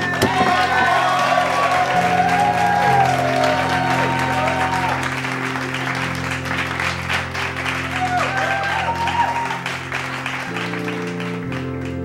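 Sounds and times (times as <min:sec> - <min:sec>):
background music sustained chords: 0:00.0 - 0:12.0.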